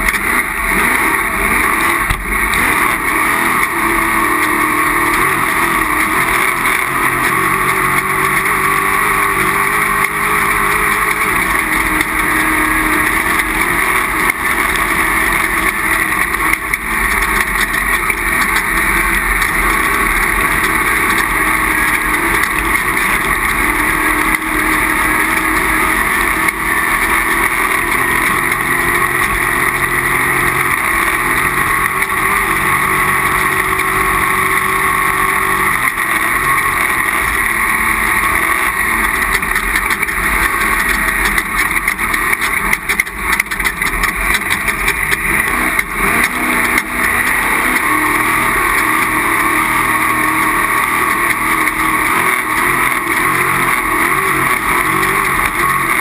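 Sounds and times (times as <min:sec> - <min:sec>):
race vehicle engine running hard: 0:00.0 - 0:56.0
wind and ride noise: 0:00.0 - 0:56.0.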